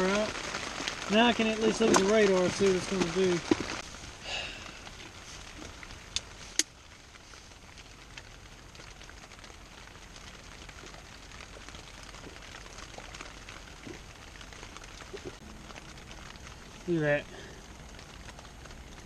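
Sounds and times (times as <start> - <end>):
light rain pattering: 0.0 - 19.0.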